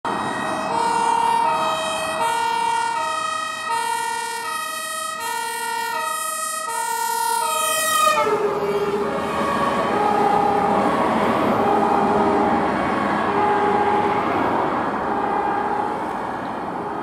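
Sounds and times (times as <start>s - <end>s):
fire engine two-tone siren: 0.0s - 17.0s.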